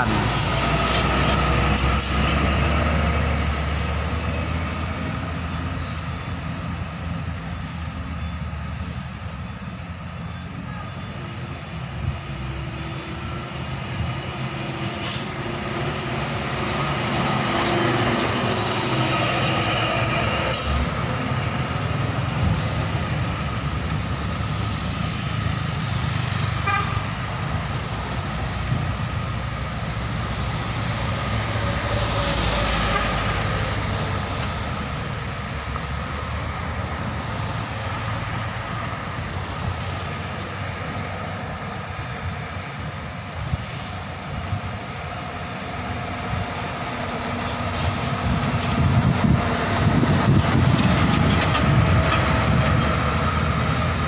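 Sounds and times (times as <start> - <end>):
cars driving past: 0.0 - 9.4, 11.5 - 54.0
diesel truck engines running: 0.0 - 54.0.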